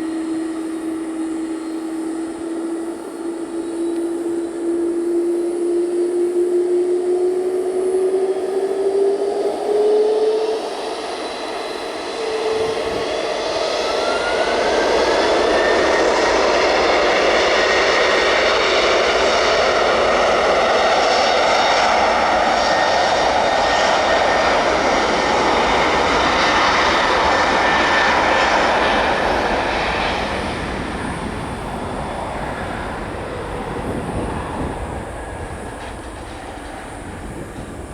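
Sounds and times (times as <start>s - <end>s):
jet engine roar: 0.0s - 37.9s
jet engine whine: 0.0s - 37.9s.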